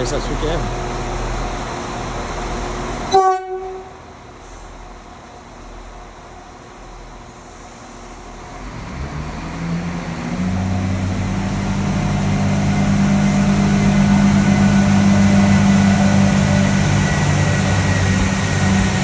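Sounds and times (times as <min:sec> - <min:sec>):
diesel train engines droning: 0:00.0 - 0:19.0.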